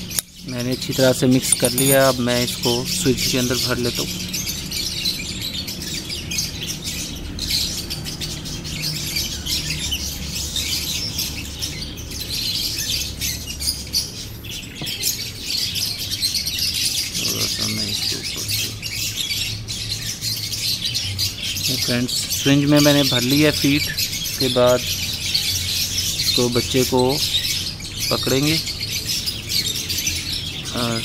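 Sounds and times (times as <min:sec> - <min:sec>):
small birds chirping and chattering: 0:00.0 - 0:31.0.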